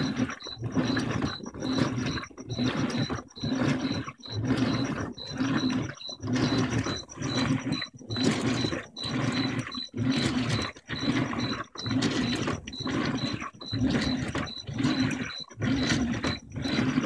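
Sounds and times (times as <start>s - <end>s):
washing machine agitating: 0.0s - 17.0s.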